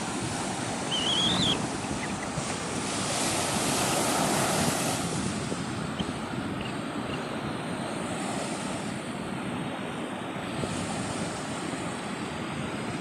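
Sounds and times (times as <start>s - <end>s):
wind rumble on microphone: 0.0s - 9.8s, 10.4s - 13.0s
ocean surf rushing: 0.0s - 13.0s.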